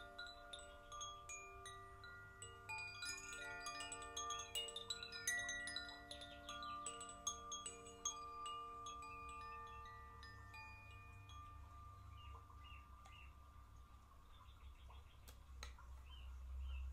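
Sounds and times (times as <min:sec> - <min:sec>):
wind chime ringing: 0:00.0 - 0:13.8.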